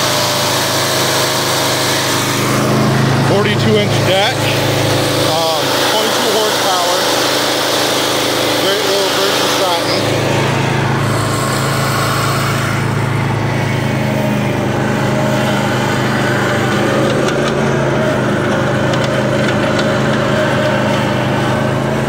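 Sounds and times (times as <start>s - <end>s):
riding mower engine running: 0.0s - 22.0s
higher hum: 1.9s - 22.0s.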